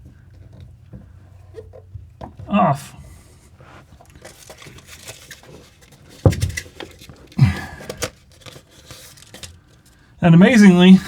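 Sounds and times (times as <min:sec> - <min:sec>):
handling clicks and rustling: 0:00.0 - 0:11.0.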